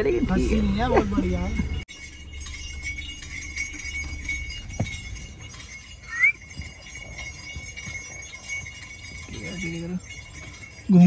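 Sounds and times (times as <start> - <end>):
small bells jingling: 0.0 - 11.0.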